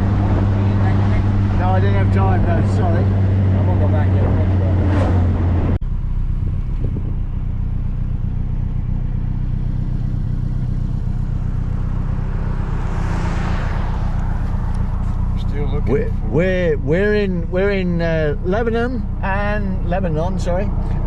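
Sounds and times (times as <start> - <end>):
car engine cruising: 0.0 - 21.0
road and wind noise: 0.0 - 21.0.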